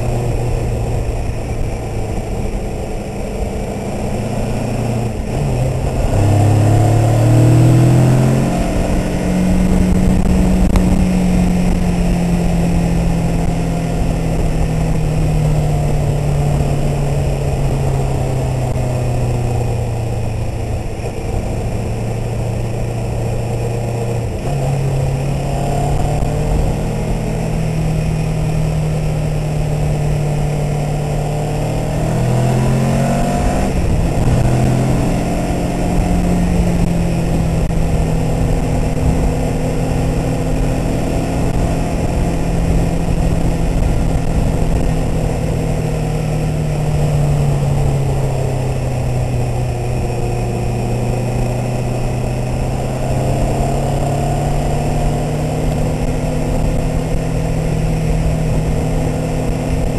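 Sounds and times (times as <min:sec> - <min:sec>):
motorcycle engine and exhaust: 0:00.0 - 0:59.9
wind rumble on microphone: 0:00.0 - 0:59.9.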